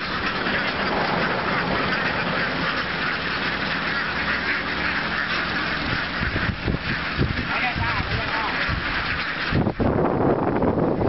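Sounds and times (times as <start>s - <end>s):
flock of ducks quacking: 0.0s - 11.0s.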